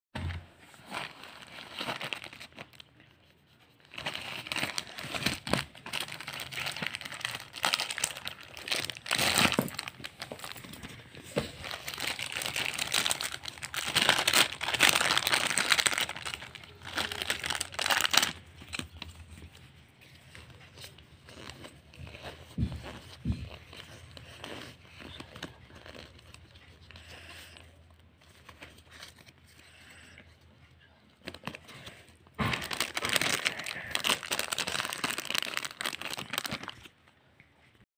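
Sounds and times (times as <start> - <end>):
plastic packaging crinkling and tearing: 0.7 - 3.1, 3.8 - 29.5, 31.2 - 37.0.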